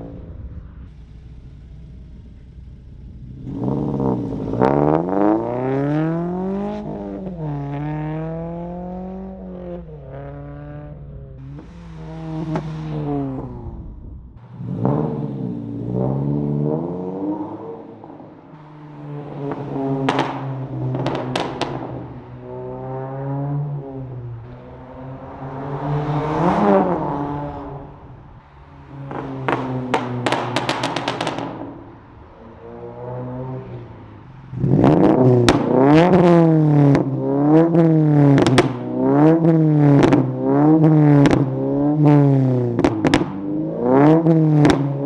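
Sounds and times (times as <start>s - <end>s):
exhaust cracks: 0.0s - 8.0s, 9.3s - 16.6s, 17.8s - 22.8s, 24.0s - 45.0s
car engine accelerating past: 3.2s - 45.0s.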